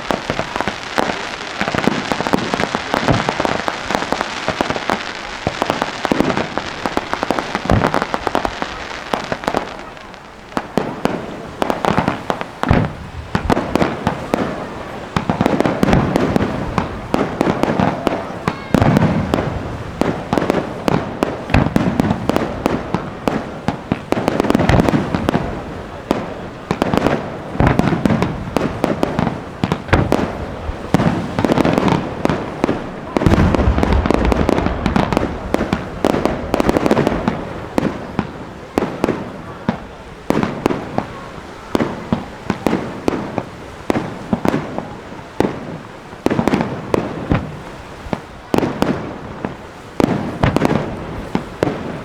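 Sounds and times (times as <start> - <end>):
deep firework booms: 0.0 - 52.0
fireworks bangs and crackling: 0.0 - 52.0.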